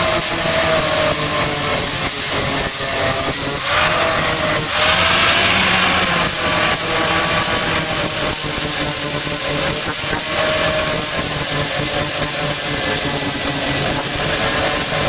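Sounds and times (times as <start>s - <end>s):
electric grinder grinding metal: 0.0s - 15.0s.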